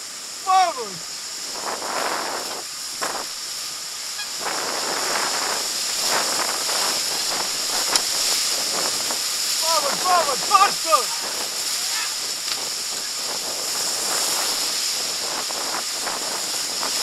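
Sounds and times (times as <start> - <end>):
river water rushing and splashing: 0.0 - 17.0
wind noise on microphone: 0.7 - 17.0.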